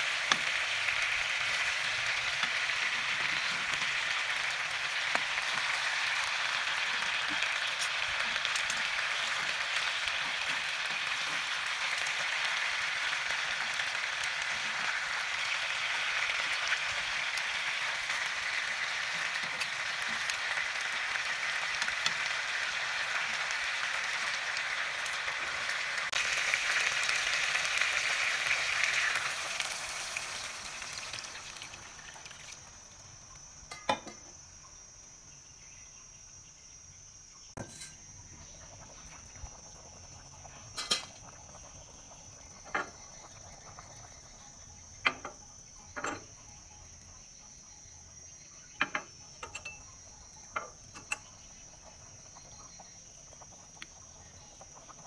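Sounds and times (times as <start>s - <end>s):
frying pan sizzling: 0.0s - 34.4s, 37.5s - 46.4s, 48.6s - 55.0s.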